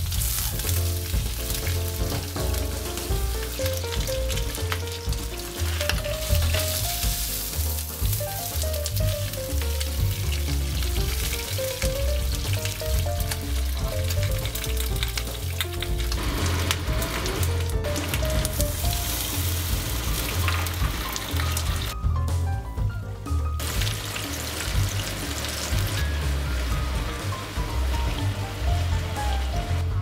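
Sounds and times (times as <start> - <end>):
fish sizzling in oil: 0.0 - 22.0, 23.6 - 30.0
melodic music with pulsing bass: 0.0 - 30.0.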